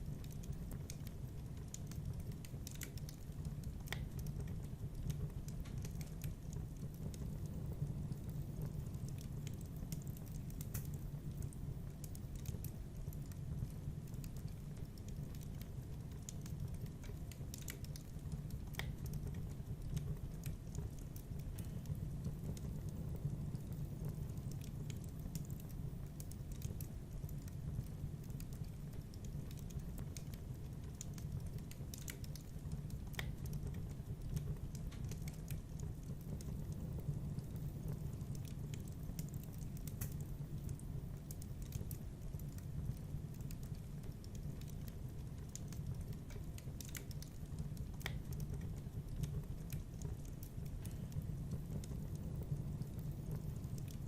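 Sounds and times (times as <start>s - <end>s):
wood fire crackling: 0.0s - 54.0s
sharp pops from burning logs: 0.1s - 54.0s.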